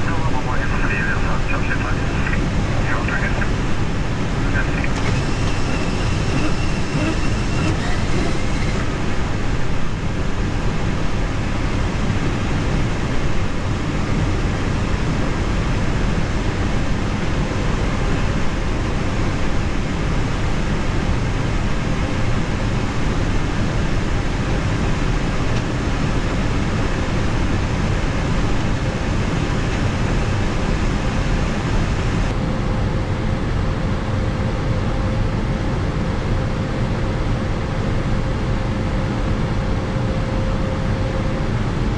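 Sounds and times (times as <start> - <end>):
air-conditioning blowing: 0.0 - 41.9
steady hum: 0.0 - 41.9
turbofan engine running: 0.0 - 41.9.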